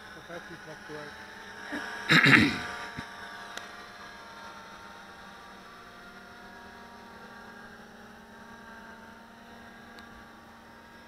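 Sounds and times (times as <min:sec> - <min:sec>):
quadcopter propellers humming: 0:00.0 - 0:11.0.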